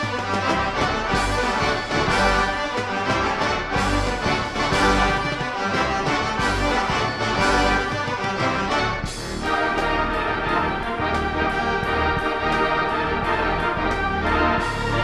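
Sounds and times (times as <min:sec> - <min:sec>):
drum kit: 0:00.0 - 0:15.0
theatre pipe organ ballad: 0:00.0 - 0:15.0.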